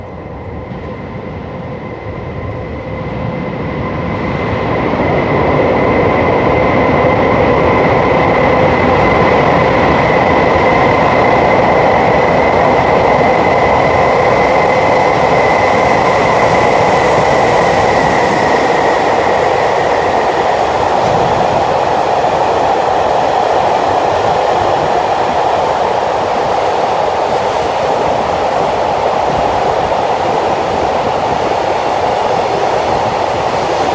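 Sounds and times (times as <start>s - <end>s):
train rumbling past: 0.0s - 33.9s.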